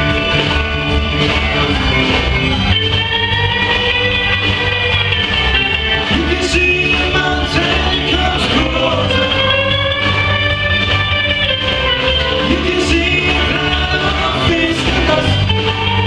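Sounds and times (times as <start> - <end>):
electric guitar lines: 0.0 - 16.0
rock band playing live: 0.0 - 16.0.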